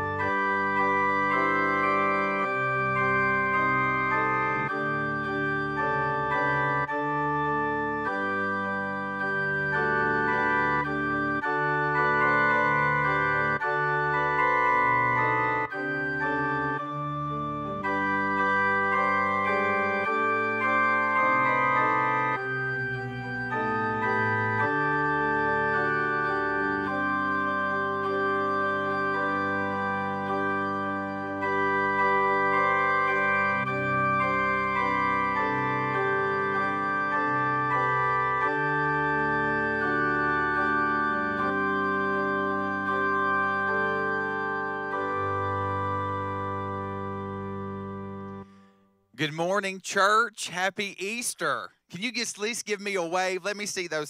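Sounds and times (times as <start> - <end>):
sustained organ chords: 0.0 - 54.0.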